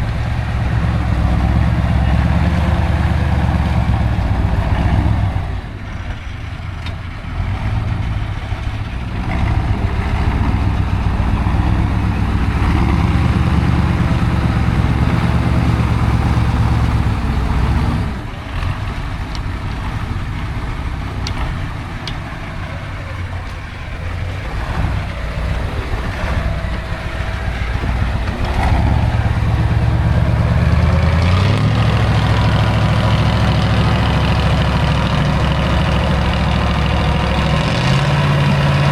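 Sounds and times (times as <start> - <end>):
diesel truck engine under load: 0.0 - 38.9.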